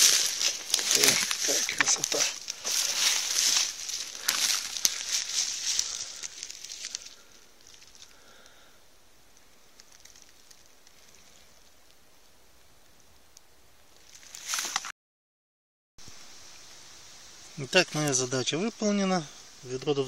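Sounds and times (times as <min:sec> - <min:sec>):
faint forest background: 0:00.0 - 0:14.9, 0:16.0 - 0:20.0
leaves and twigs rustling: 0:00.0 - 0:14.9, 0:16.0 - 0:20.0.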